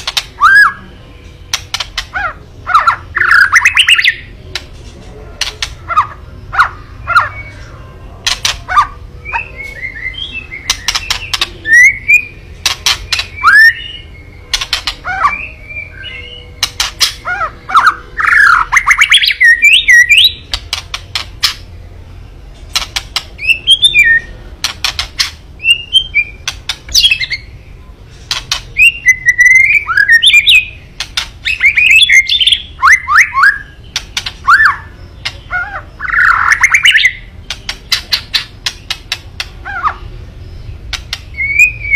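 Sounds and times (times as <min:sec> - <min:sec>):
bird calling with clicks and trills: 0:00.0 - 0:04.6, 0:05.4 - 0:21.8, 0:22.7 - 0:41.9.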